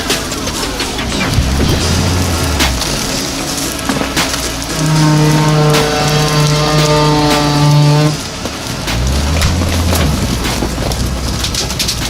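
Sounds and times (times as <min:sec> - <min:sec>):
tree branches cracking: 0:00.0 - 0:12.0.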